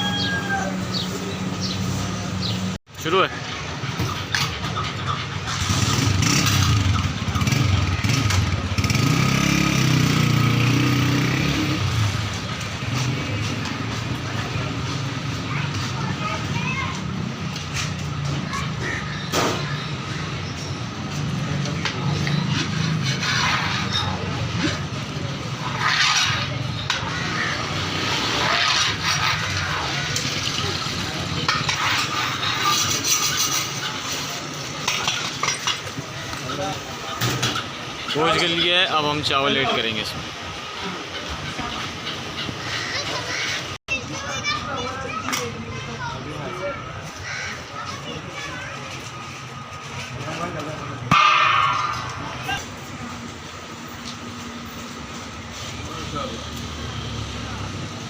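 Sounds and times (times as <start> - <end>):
steady traffic noise: 0.0 - 58.0
motorcycle revving and passing: 0.8 - 43.8, 48.9 - 58.0.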